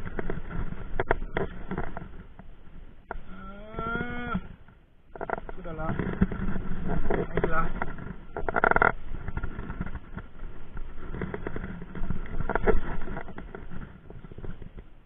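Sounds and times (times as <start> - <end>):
low rumble of wind: 0.0 - 15.0
water: 0.0 - 15.0.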